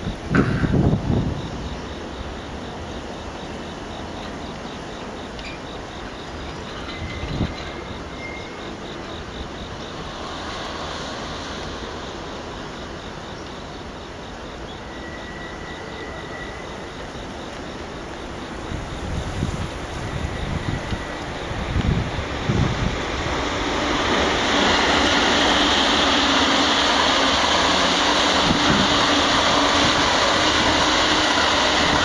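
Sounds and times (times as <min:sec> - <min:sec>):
freight train rumbling: 0:00.0 - 0:32.0
insects chirping: 0:00.0 - 0:32.0.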